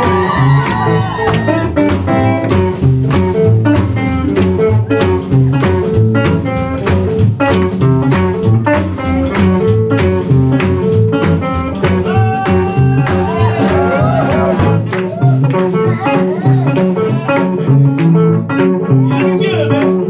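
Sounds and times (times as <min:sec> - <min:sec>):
bass: 0:00.0 - 0:20.0
drums: 0:00.0 - 0:20.0
guitar: 0:00.0 - 0:20.0.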